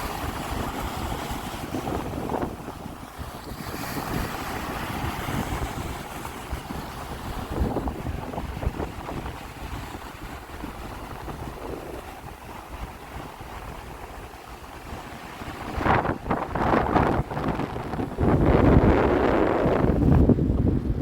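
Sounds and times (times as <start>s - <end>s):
sea waves washing in: 0.0s - 21.0s
wind rumbling on microphone: 0.0s - 21.0s.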